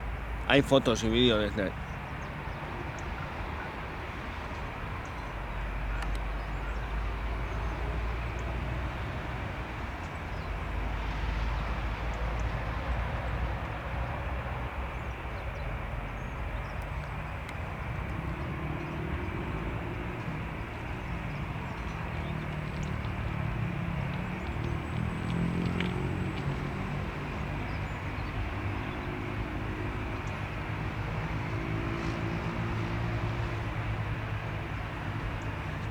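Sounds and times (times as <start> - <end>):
distant jet engines rumbling: 0.0 - 35.9.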